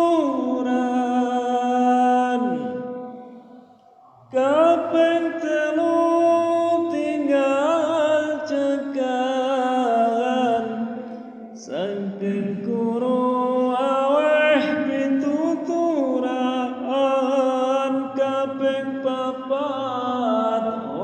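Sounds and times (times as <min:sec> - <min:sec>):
solo voice chanting: 0:00.0 - 0:21.0.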